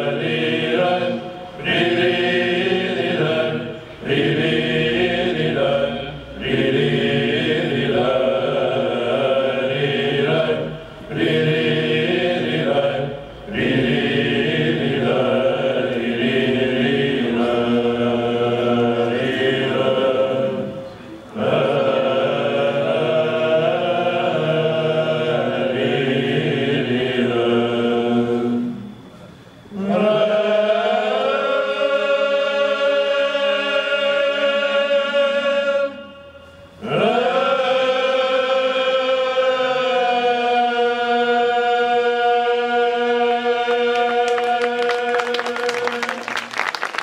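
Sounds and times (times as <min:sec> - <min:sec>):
male choir chanting in unison: 0:00.0 - 0:46.3
low held vocal drone: 0:00.0 - 0:47.0.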